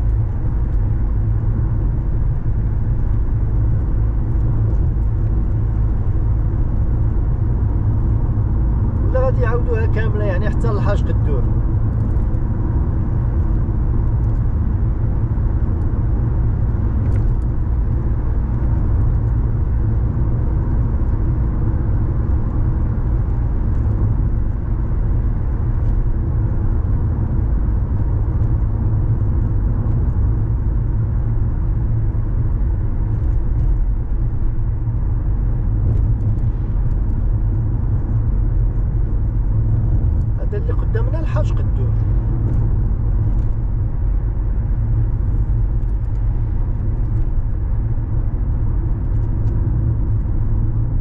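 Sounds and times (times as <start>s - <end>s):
car driving on road: 0.0s - 51.0s.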